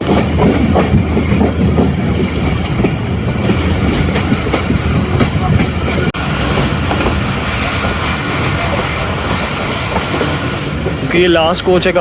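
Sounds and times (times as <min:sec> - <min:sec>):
train coach rumbling on track: 0:00.0 - 0:12.0
wheels clicking over rail joints: 0:00.0 - 0:12.0.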